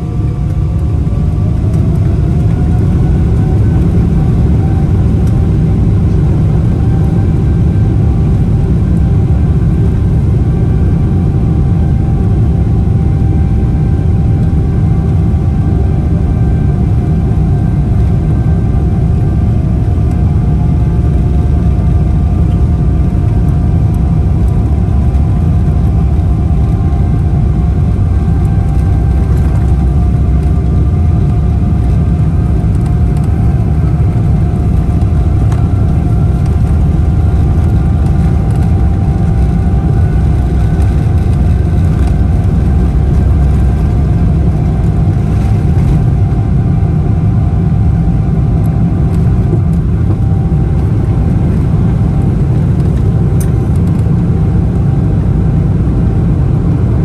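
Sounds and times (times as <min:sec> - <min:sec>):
jet engine cabin rumble: 0:00.0 - 0:57.0.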